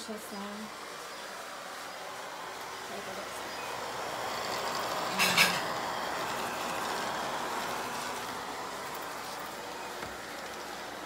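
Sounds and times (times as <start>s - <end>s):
robot vacuum cleaner running: 0.0s - 11.0s.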